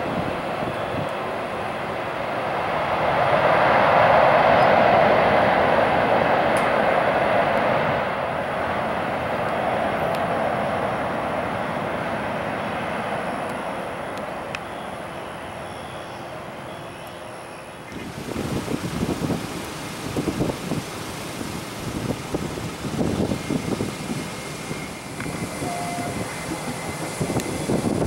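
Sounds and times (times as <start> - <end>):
jet engine passing: 0.0 - 28.0.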